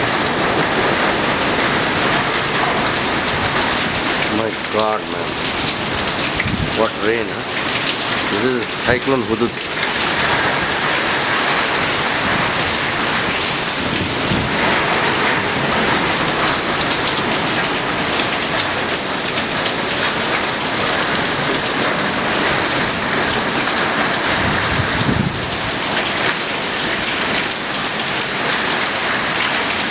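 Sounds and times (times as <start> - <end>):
heavy rain downpour: 0.0 - 29.9.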